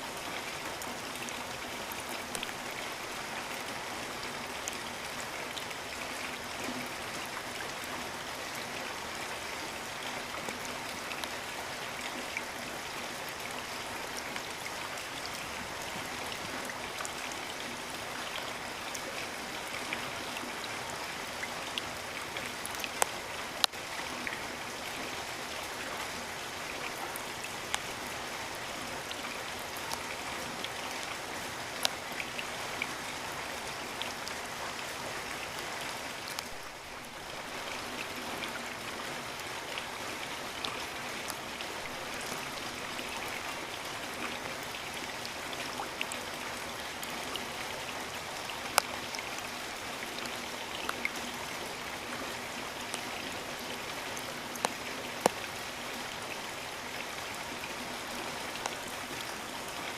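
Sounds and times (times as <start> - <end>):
raindrops striking close by: 0.0 - 59.9
steady rain falling: 0.0 - 59.9.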